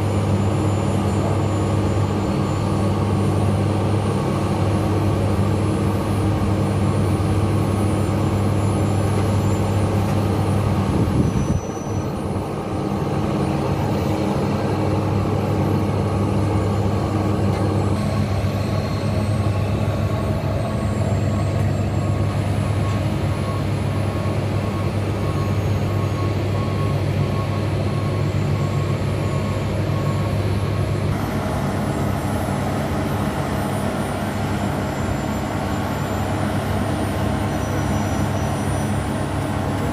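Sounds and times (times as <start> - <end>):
engine running with low drone: 0.0 - 39.9.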